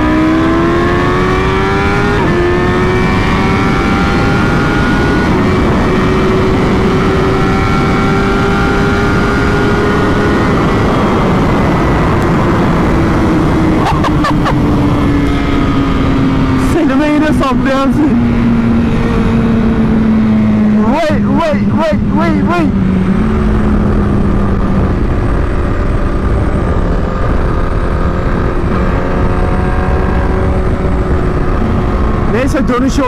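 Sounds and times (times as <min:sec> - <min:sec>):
motorcycle engine accelerating: 0:00.0 - 0:33.0
wind rush: 0:00.0 - 0:33.0.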